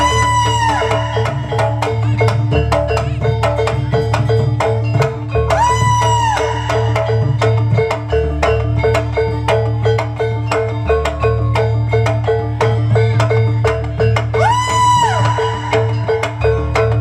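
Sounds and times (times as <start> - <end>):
drums: 0.0 - 17.0
metallophones playing fast pulse: 0.0 - 17.0.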